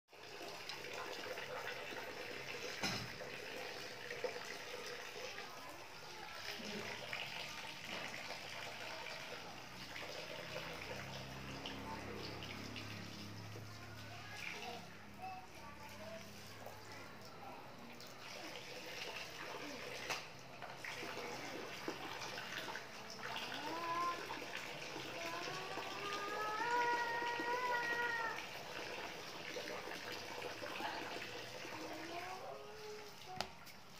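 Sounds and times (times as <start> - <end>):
water splashing in a plastic basin: 0.1 - 14.9, 15.8 - 33.9.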